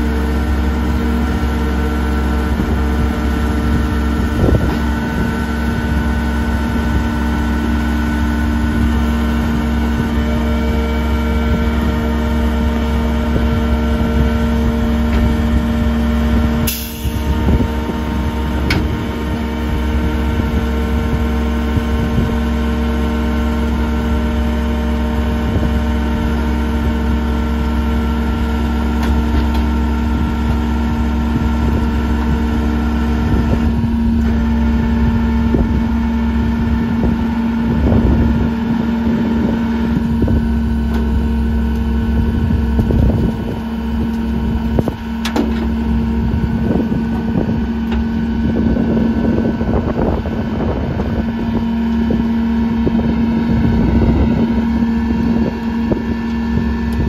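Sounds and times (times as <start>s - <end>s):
garbage truck engine drone: 0.0s - 57.0s.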